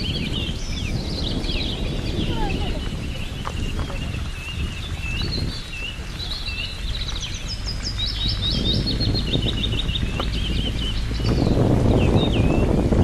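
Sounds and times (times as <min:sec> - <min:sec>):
songbirds chirping and singing: 0:00.0 - 0:13.0
steady low rumble: 0:00.0 - 0:13.0.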